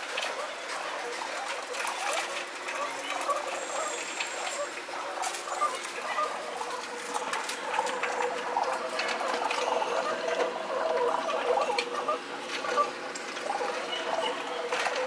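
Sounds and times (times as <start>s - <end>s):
busy background noise: 0.0s - 15.0s
pigeons pecking on tiled ledge: 0.0s - 15.0s.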